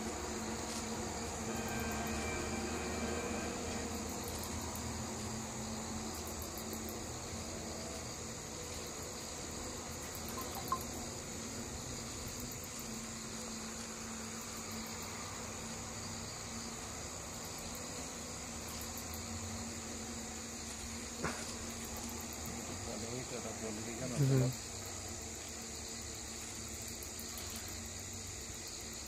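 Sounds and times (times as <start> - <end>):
high-pitched insect drone: 0.0 - 29.0
insects chirping in trills: 0.0 - 29.0.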